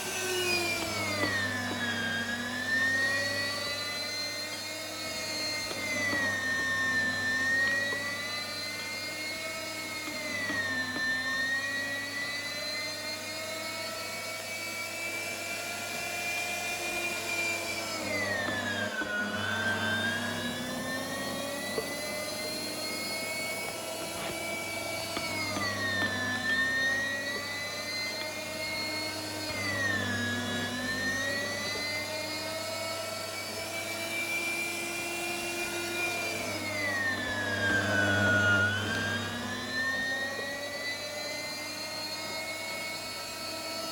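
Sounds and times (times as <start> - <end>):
meat grinder motor whining: 0.0 - 43.9.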